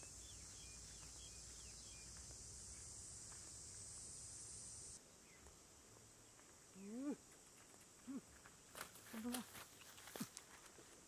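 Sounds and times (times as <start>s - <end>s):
high-pitched insect chorus: 0.0s - 10.5s.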